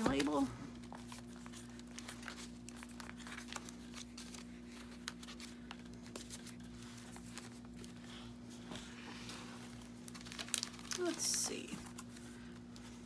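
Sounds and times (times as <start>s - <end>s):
paper rustling and crinkling: 0.0s - 13.0s
steady low hum: 0.0s - 13.0s.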